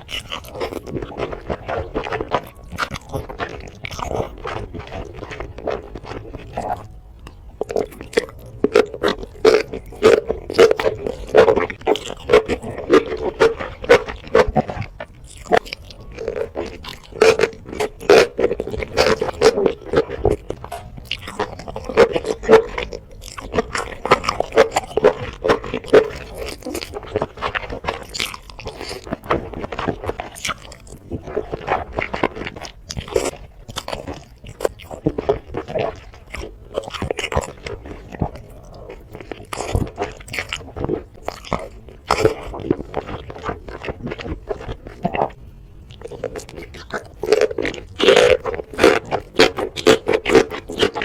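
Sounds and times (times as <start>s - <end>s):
person chewing crisp food: 0.0s - 51.0s.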